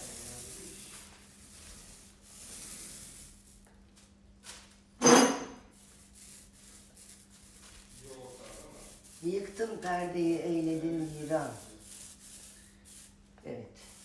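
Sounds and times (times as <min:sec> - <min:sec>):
paint roller rubbing: 0:00.0 - 0:04.7, 0:05.7 - 0:13.2, 0:13.8 - 0:14.0.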